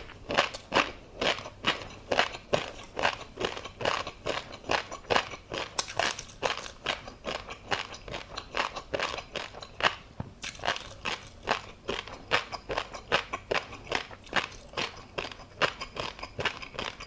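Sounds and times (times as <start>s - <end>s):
chewing crunchy food: 0.0s - 17.0s.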